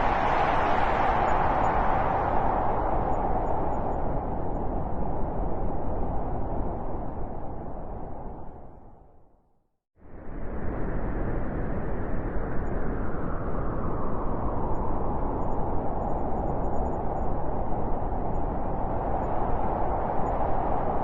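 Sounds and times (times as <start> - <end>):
strong wind through forest: 0.0 - 9.2, 10.0 - 21.0.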